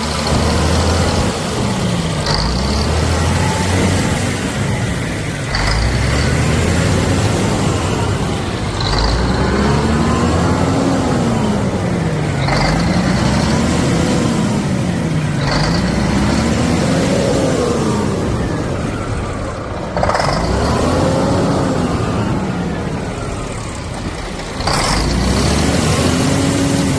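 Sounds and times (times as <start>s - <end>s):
vehicle engine revving: 0.0s - 26.9s.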